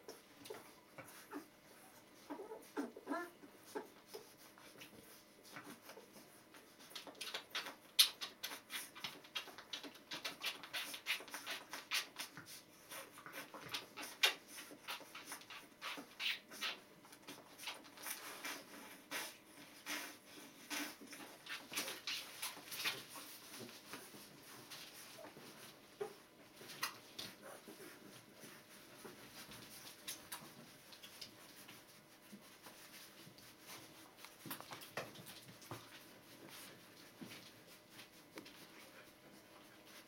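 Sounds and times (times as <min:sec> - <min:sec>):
puppies suckling wet clicks: 0:03.8 - 0:37.5.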